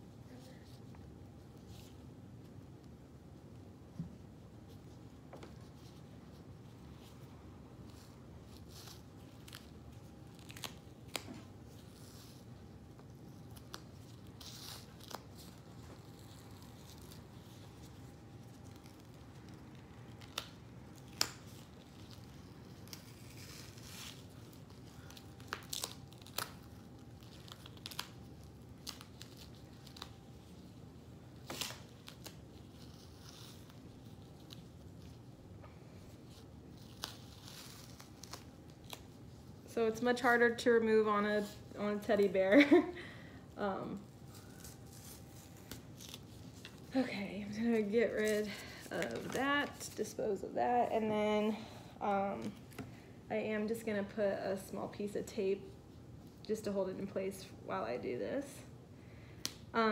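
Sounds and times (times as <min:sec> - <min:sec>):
soft tearing and crinkling: 0:00.2 - 0:53.1.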